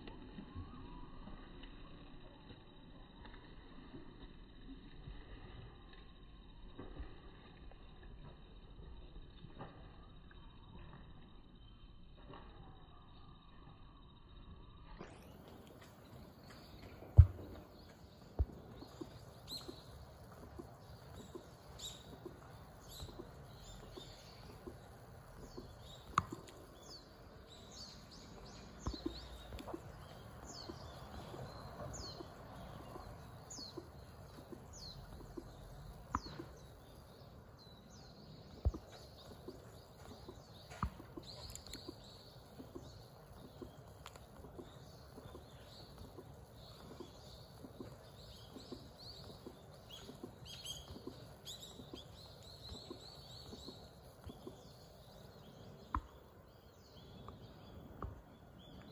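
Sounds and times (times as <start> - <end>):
low outdoor background noise: 0.0 - 58.9
small birds chirping: 9.6 - 58.9.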